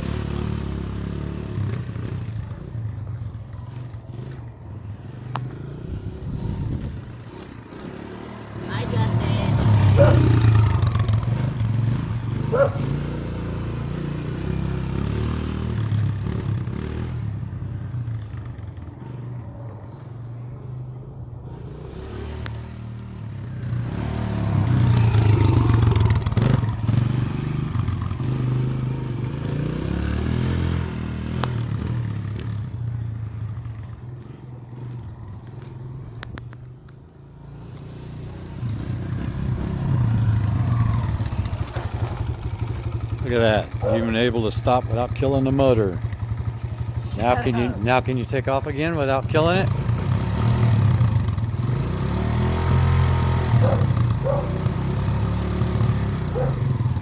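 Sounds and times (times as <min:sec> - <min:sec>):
dirt bike engine running: 0:00.0 - 0:19.3, 0:23.7 - 0:36.0, 0:38.2 - 0:57.0.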